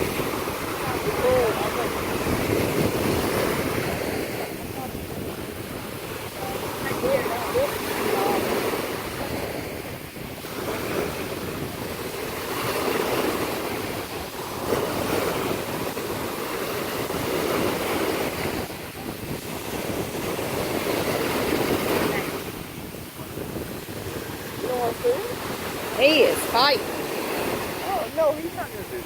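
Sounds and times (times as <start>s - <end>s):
surf washing ashore: 0.0s - 29.0s
wind buffeting microphone: 0.0s - 29.0s.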